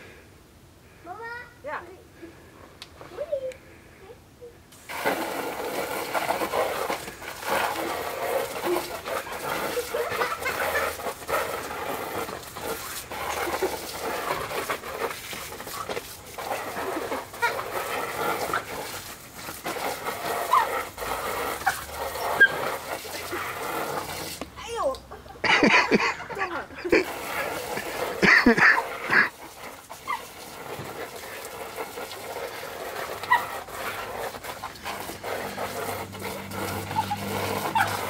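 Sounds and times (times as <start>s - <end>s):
hose water spraying on plastic: 4.7s - 38.0s.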